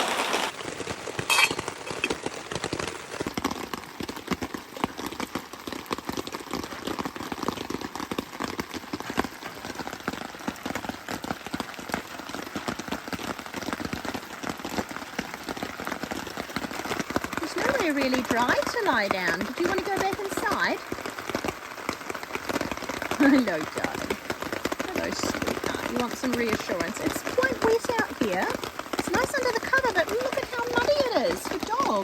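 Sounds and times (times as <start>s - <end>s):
heavy rain on a tarp: 0.0s - 32.0s.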